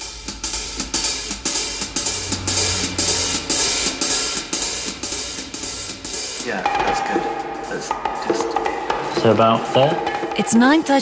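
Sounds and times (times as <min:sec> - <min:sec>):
drum kit beat with cymbals: 0:00.0 - 0:11.0.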